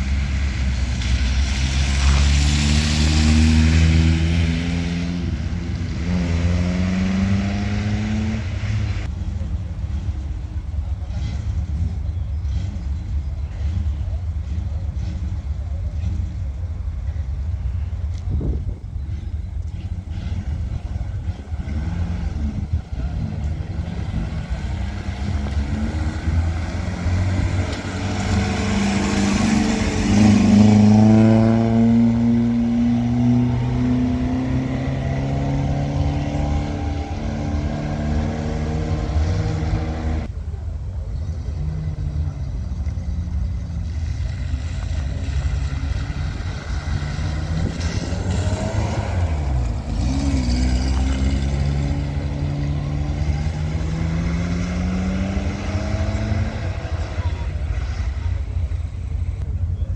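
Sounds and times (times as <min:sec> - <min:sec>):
car pulling away: 0:00.0 - 0:59.9
rally car engines running: 0:00.0 - 0:59.9.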